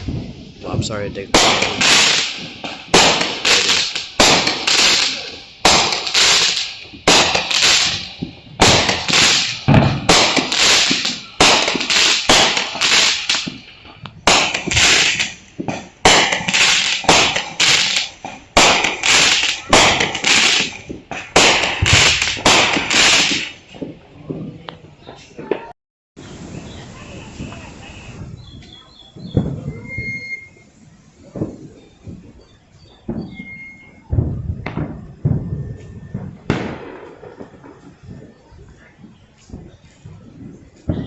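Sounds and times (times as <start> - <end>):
firecrackers banging: 0.0 - 41.0.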